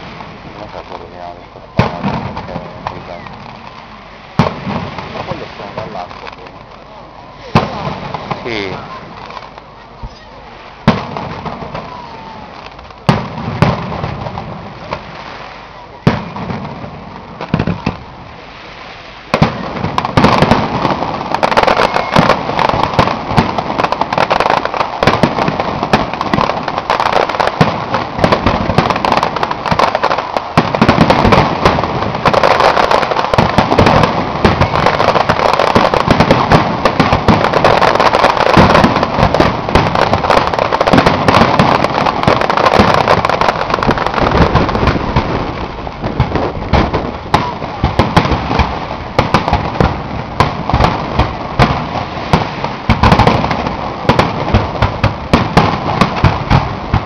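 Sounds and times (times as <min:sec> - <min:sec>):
fireworks bursts and crackle: 0:00.0 - 0:57.0.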